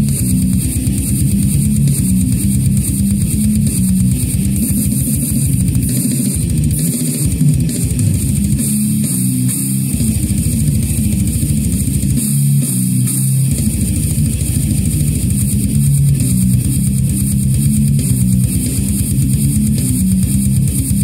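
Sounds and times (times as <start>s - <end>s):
distorted electric guitar riffing: 0.0s - 21.0s
fast drums with cymbals: 0.0s - 21.0s
rapid low kick drum: 0.0s - 21.0s.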